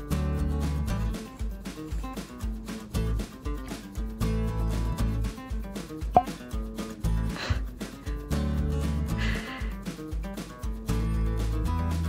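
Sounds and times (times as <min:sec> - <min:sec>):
background music with bass notes: 0:00.0 - 0:12.0.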